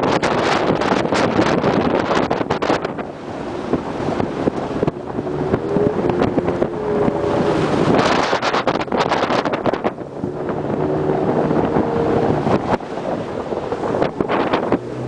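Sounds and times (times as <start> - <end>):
boat rushing through water: 0.0 - 15.0
wind buffeting microphone: 0.0 - 15.0.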